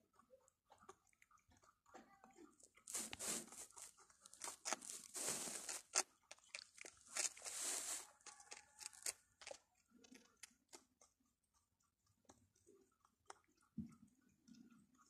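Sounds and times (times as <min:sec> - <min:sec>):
rabbits chewing bread: 0:00.0 - 0:15.0.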